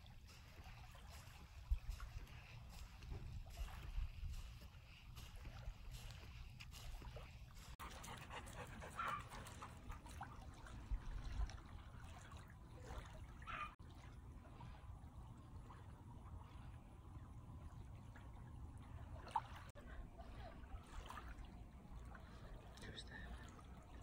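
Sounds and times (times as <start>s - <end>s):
small waves lapping: 0.0s - 24.0s.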